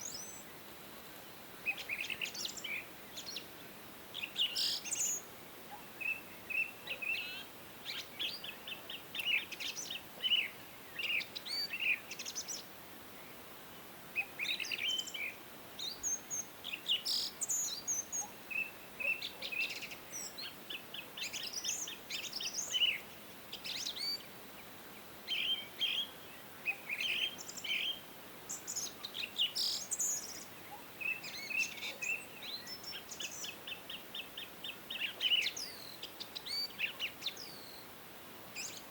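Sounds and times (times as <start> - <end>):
faint steady hiss: 0.0 - 38.9
songbirds chirping and trilling: 0.0 - 38.9.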